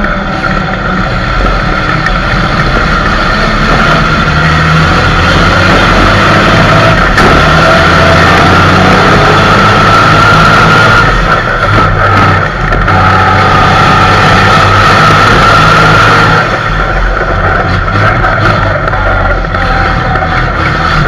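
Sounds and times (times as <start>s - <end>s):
diesel engine under load: 0.0s - 21.0s
high whine: 0.0s - 21.0s.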